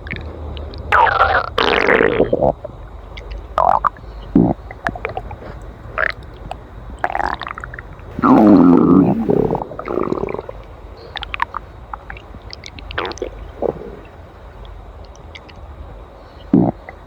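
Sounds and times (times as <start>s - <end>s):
stomach gurgling and growling: 0.0s - 14.2s, 16.5s - 17.0s.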